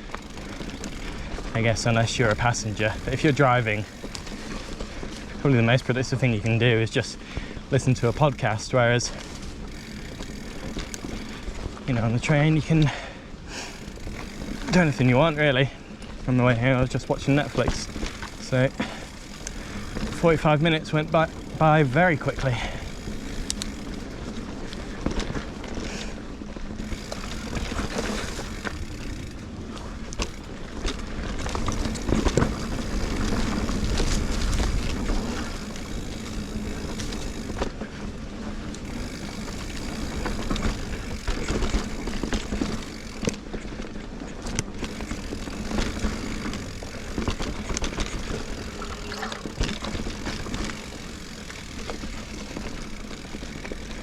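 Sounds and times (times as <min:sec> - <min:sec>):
bike rattling over bumps: 0:00.0 - 0:54.0
bike tyres rolling on dirt: 0:00.0 - 0:54.0.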